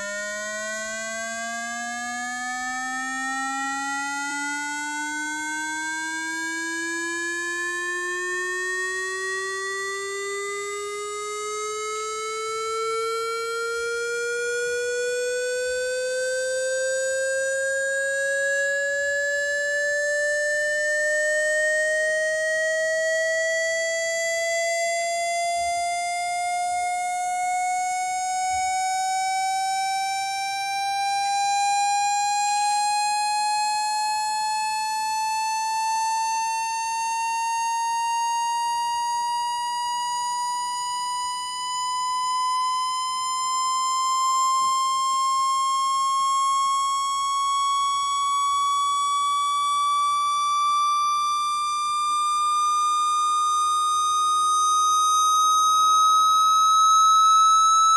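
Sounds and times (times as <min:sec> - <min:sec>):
rising electronic test tone: 0:00.0 - 0:57.9.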